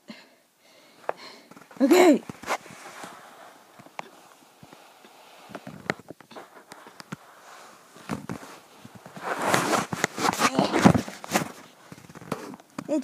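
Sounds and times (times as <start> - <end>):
fabric rustling: 1.0 - 13.0.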